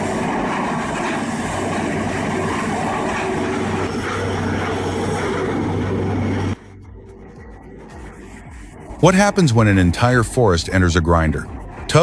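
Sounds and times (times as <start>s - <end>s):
heavy machinery humming and rumbling: 0.0s - 12.0s.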